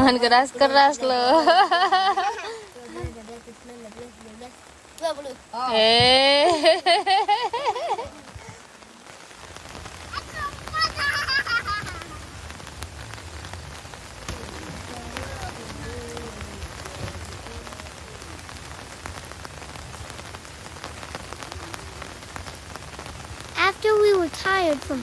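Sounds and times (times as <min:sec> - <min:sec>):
heavy rain on a car roof: 0:00.0 - 0:25.0.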